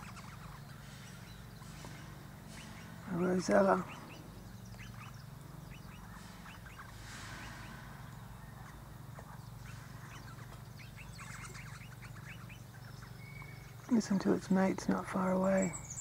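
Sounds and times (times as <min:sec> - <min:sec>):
parrots chattering faintly: 0:00.0 - 0:16.0.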